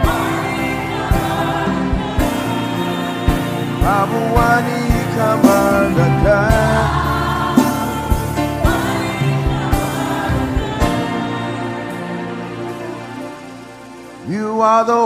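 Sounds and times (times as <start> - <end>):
band playing: 0.0 - 14.6
voices holding long notes: 0.0 - 15.0.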